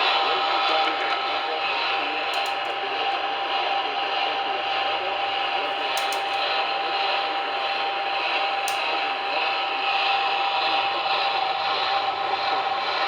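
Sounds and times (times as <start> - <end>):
radio static hiss: 0.0 - 13.0
steady whine: 0.0 - 13.0.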